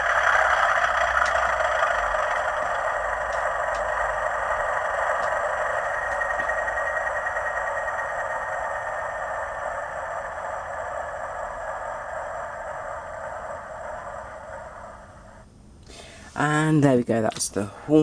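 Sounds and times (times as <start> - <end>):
thin diesel engine drone from speaker: 0.0 - 16.4.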